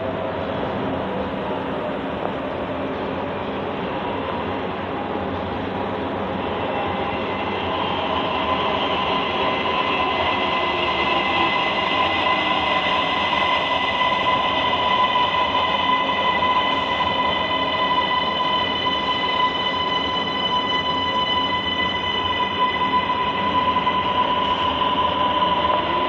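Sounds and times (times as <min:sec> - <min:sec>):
subway train running: 0:00.0 - 0:26.0.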